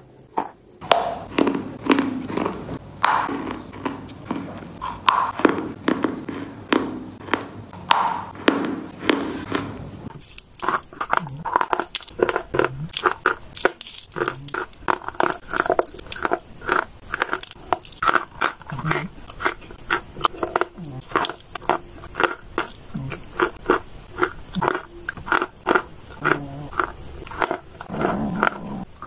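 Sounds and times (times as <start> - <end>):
chalk crunching being chewed: 0.0 - 7.5, 8.5 - 29.0.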